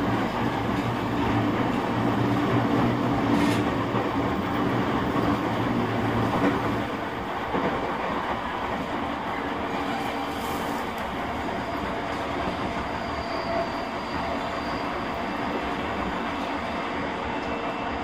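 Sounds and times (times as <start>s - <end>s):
train wheel and rail noise: 0.0s - 18.0s.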